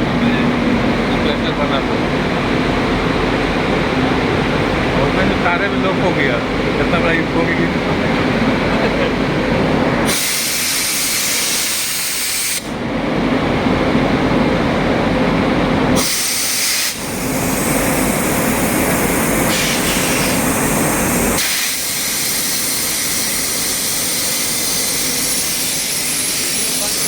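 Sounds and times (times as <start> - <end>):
train rumble with hiss: 0.0 - 27.0.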